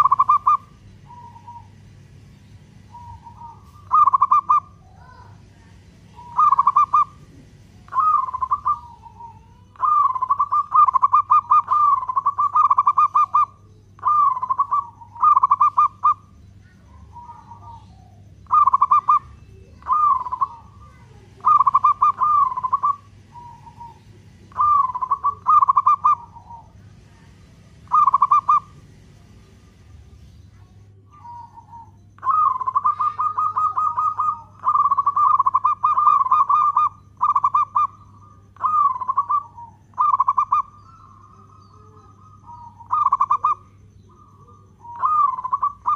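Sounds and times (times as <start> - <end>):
dove rolling coos: 0.0 - 30.0, 30.8 - 45.9.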